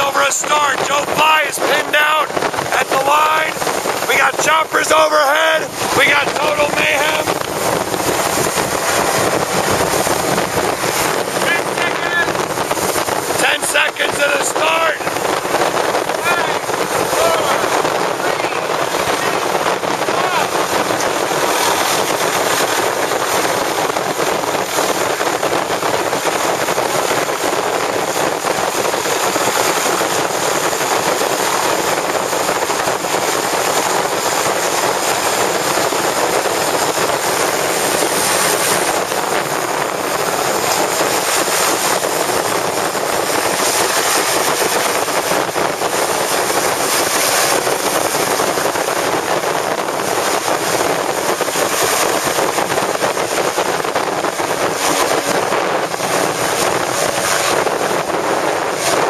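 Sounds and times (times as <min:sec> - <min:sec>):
motorboat engine and water: 0:00.0 - 0:59.0.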